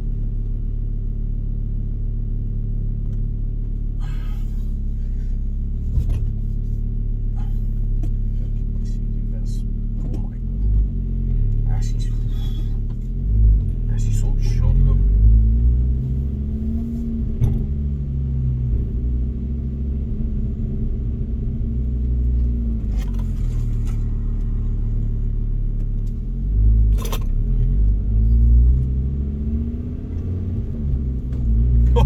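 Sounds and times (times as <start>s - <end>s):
car engine revving: 3.8s - 32.0s.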